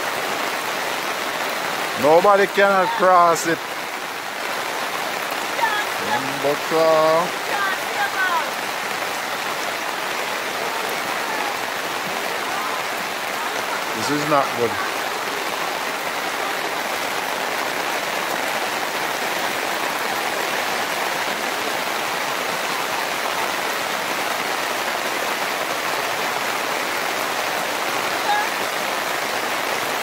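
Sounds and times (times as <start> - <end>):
floodwater rushing over road: 0.0 - 30.0
steady rain falling: 0.0 - 30.0.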